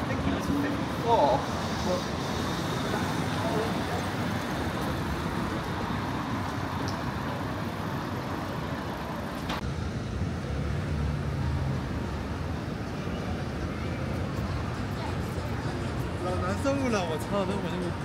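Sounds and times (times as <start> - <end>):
passing vehicles rumbling: 0.0 - 18.0.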